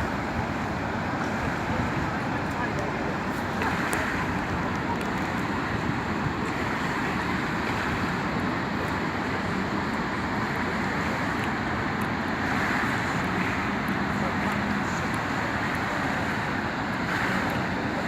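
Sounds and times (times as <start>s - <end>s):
vehicle road noise: 0.0s - 18.0s.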